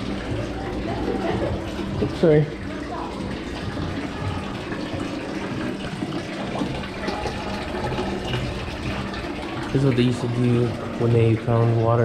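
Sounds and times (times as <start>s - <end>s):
running water from water feature: 0.0s - 12.0s.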